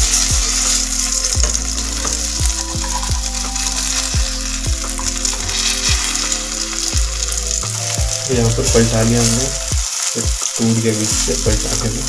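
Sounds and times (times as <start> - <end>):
omelette sizzling in oil: 0.0 - 12.0.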